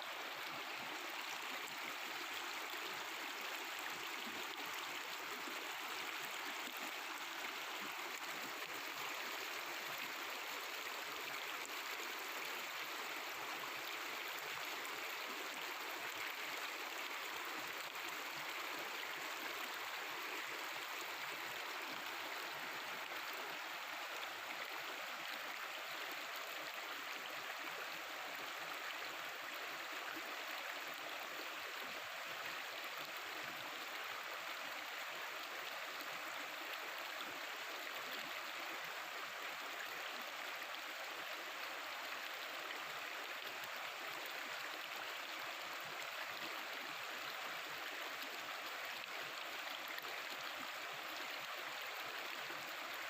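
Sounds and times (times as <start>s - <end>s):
river water gurgling over rocks: 0.0s - 53.0s.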